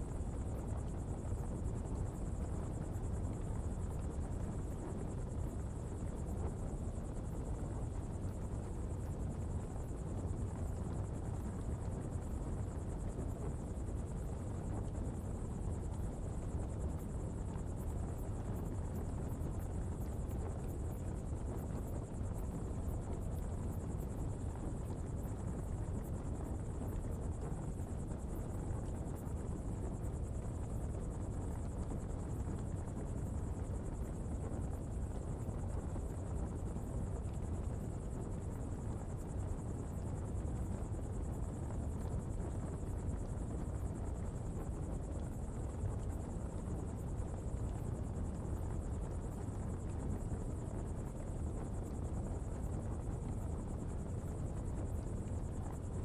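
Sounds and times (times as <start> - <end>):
fire burning with low rumble: 0.0 - 56.0.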